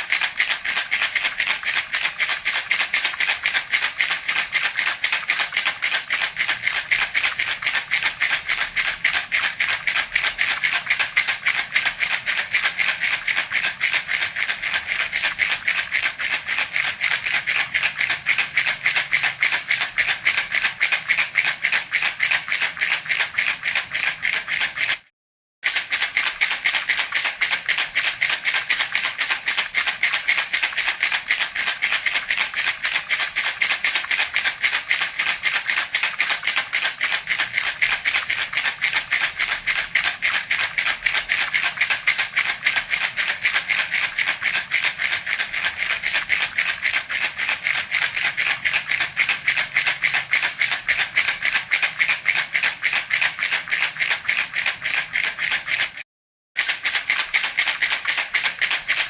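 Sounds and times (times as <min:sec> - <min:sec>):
baby's rattle shaking: 0:00.0 - 0:25.1, 0:25.7 - 0:56.0, 0:56.6 - 0:59.0.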